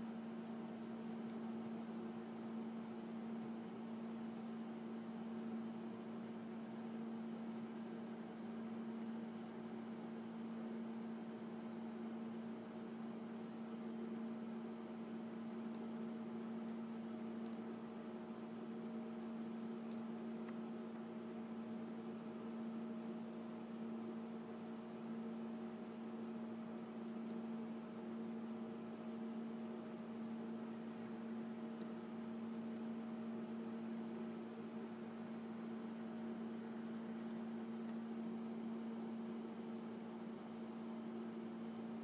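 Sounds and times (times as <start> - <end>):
electric hum: 0.0 - 42.0.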